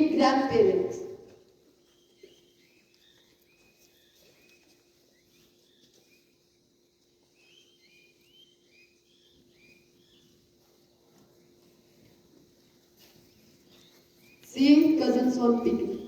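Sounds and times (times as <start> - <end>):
faint bird chirping: 1.0 - 16.0.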